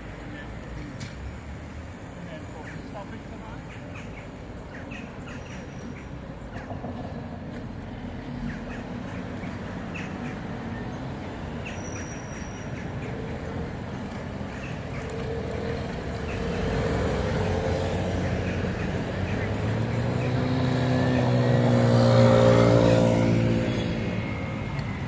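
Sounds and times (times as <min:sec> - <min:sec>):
cars driving past: 0:00.0 - 0:25.0.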